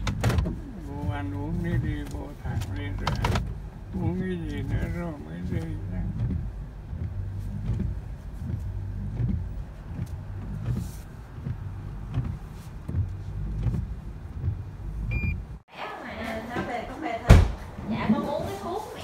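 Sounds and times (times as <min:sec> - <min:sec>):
car hum and rumble: 0:00.0 - 0:15.7.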